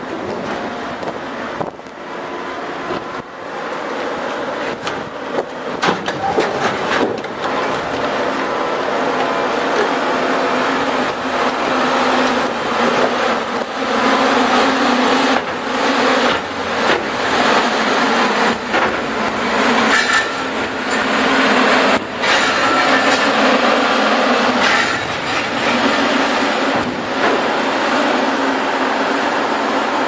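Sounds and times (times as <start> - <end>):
heavy machinery running: 0.0 - 30.0.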